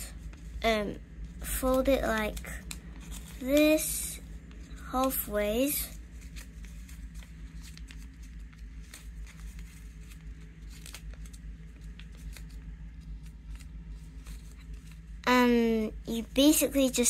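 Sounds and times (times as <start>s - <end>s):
faint low hum: 0.0s - 17.0s
paper crinkling and folding: 0.0s - 17.0s.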